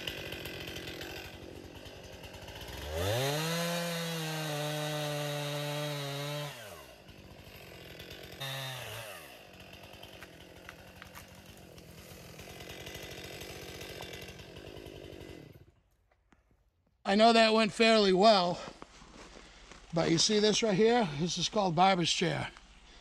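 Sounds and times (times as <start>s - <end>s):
chainsaw revving and idling: 0.0s - 16.0s, 17.1s - 23.0s.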